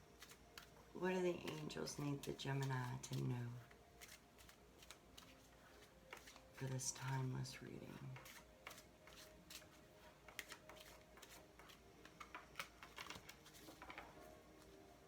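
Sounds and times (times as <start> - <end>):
cards being shuffled: 0.1 - 14.8.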